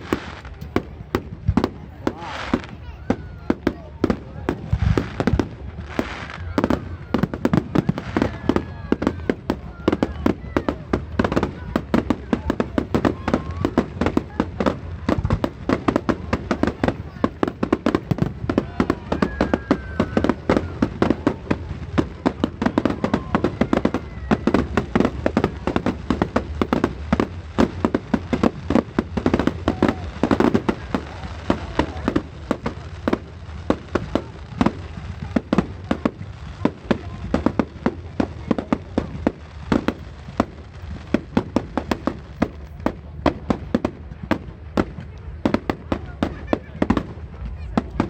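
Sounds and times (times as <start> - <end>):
fireworks bangs: 0.0 - 48.0.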